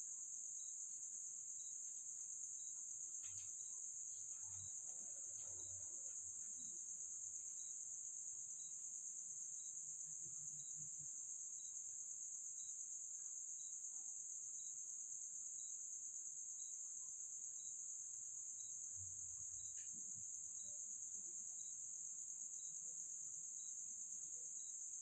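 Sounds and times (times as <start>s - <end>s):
insect chirp: 0.0s - 25.0s
insect trill: 0.0s - 25.0s.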